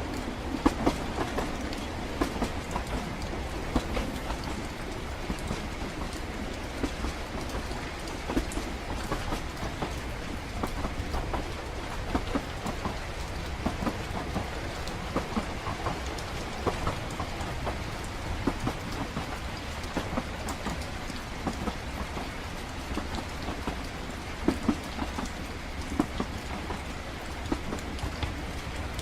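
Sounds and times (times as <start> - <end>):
rain pattering: 0.0 - 29.0
train rumbling: 0.0 - 29.0.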